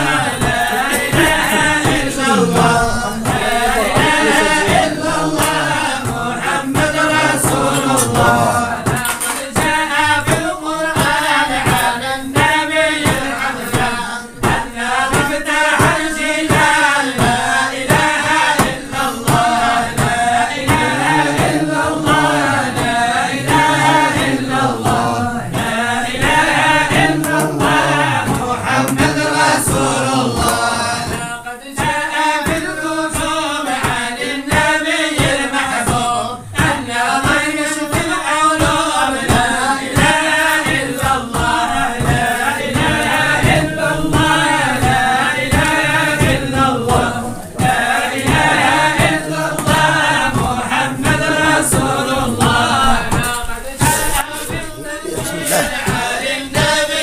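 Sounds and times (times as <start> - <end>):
voices chanting devotional song: 0.0 - 57.0.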